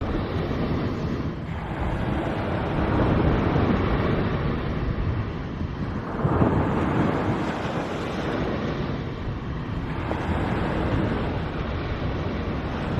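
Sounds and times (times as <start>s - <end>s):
surf washing: 0.0s - 12.9s
wind buffeting microphone: 0.0s - 12.9s.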